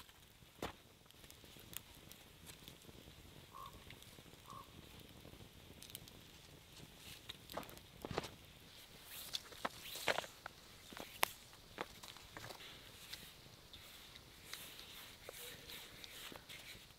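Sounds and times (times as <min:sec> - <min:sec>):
campfire crackling: 0:00.0 - 0:16.9.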